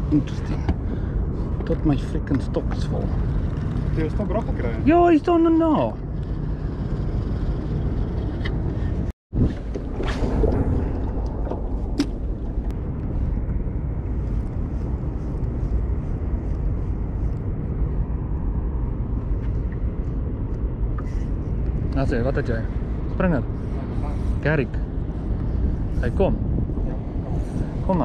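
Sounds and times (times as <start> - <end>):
low outdoor rumble: 0.0 - 28.0.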